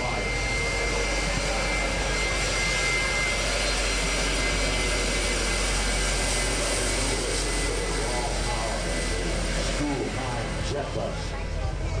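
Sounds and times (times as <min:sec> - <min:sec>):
jet engine roaring: 0:00.0 - 0:12.0.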